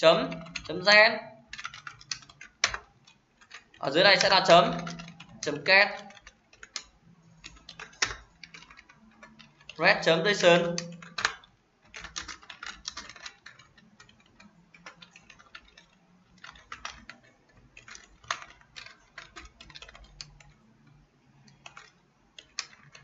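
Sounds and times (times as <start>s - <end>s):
computer keyboard typing: 0.0s - 23.0s.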